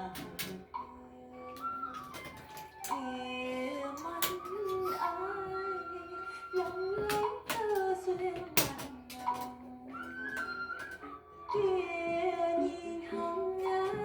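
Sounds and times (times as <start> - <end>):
song playing on a television: 0.0 - 14.0.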